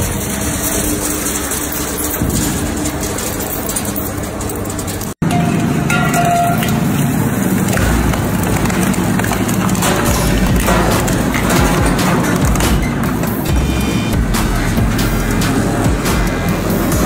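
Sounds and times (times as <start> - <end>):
shredder grinding metal: 0.0 - 17.0.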